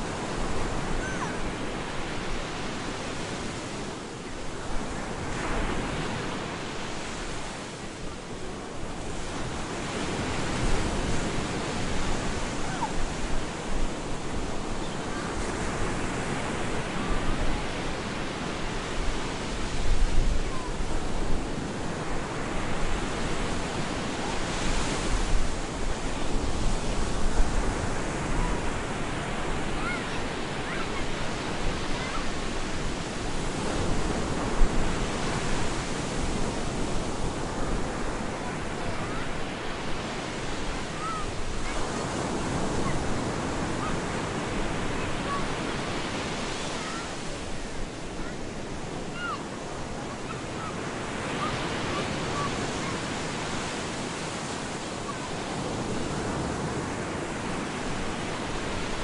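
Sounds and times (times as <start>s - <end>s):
surf breaking on beach: 0.0s - 59.0s
wind: 0.0s - 59.0s.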